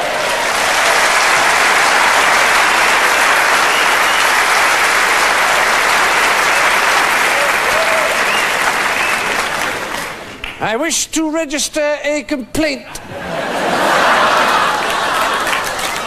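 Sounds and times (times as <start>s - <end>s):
audience applauding: 0.0s - 10.7s, 13.4s - 16.0s.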